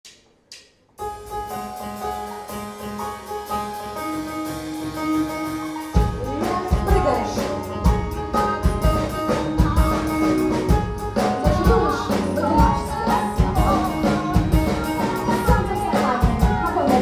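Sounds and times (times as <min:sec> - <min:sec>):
bass guitar: 0:01.0 - 0:17.0
drums: 0:01.0 - 0:17.0
keyboard chords: 0:01.0 - 0:17.0.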